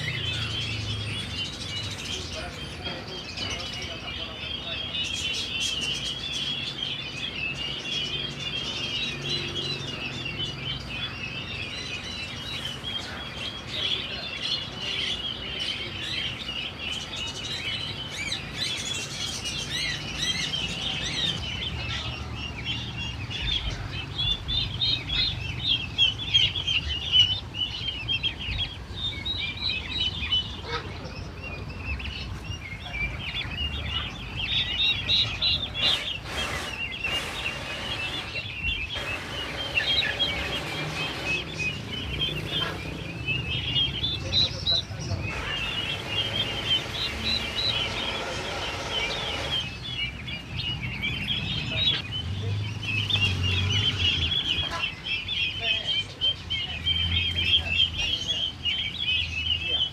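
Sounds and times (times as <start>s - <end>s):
small birds chirping and chattering: 0.0s - 59.9s.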